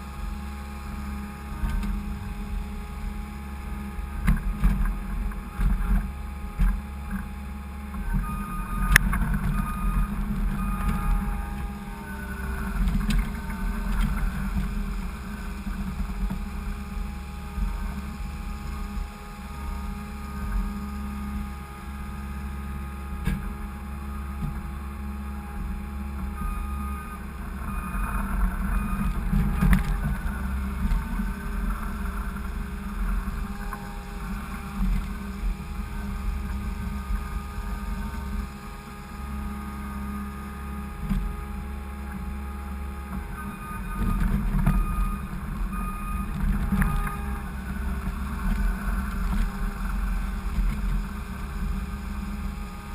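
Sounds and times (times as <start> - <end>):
skid steer engine running: 0.0 - 52.9.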